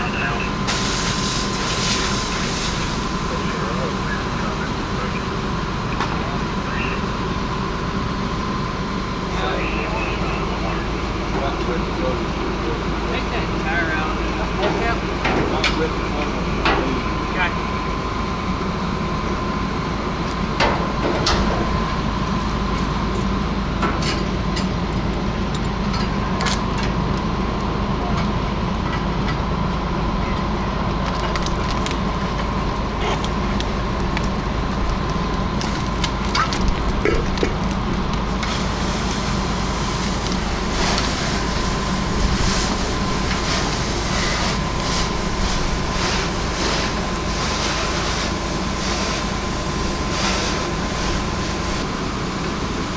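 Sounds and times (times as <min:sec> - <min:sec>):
fire engine pump whining: 0:00.0 - 0:52.9.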